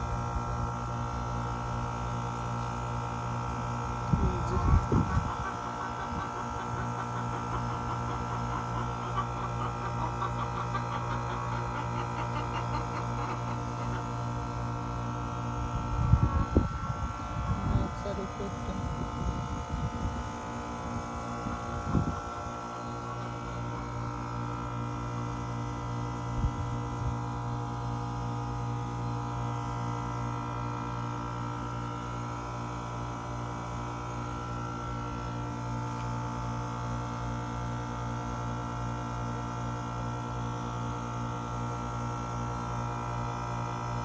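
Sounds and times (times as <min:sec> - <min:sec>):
air conditioner humming: 0:00.0 - 0:44.0.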